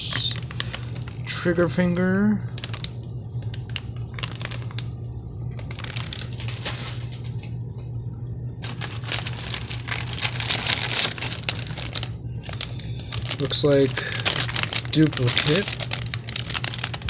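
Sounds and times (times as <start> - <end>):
plastic bags crinkling: 0.0 - 1.3, 2.6 - 4.9, 5.6 - 7.4, 8.6 - 17.0
steady low hum: 0.0 - 17.0.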